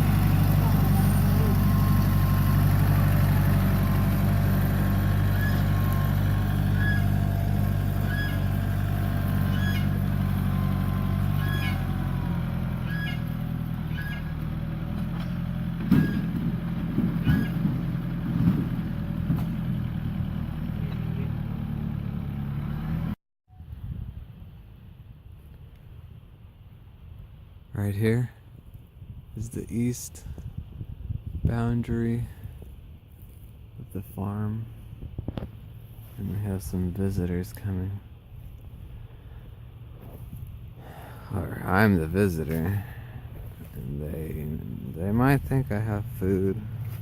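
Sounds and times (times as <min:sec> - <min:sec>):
engine running steadily: 0:00.0 - 0:23.2, 0:30.2 - 0:47.0.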